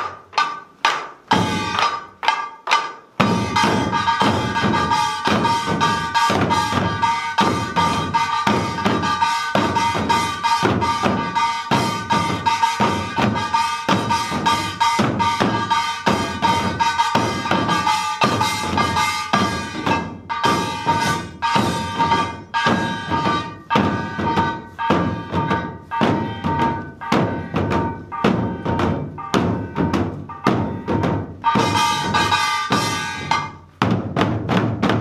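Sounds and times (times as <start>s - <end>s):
barrel drums beaten fast: 0.0s - 35.0s
small brass gong ringing: 3.2s - 33.6s.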